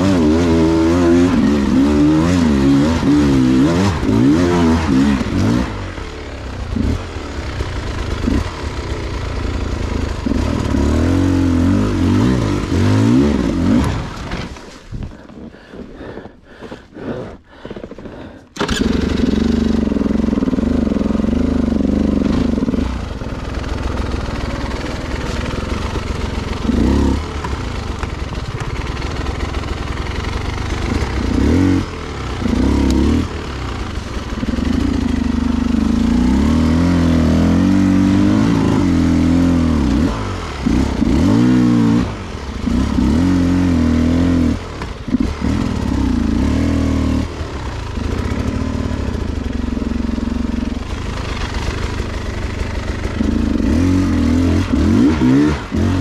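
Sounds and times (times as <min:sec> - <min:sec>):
motorcycle engine revving: 0:00.0 - 0:16.3, 0:17.0 - 0:56.0.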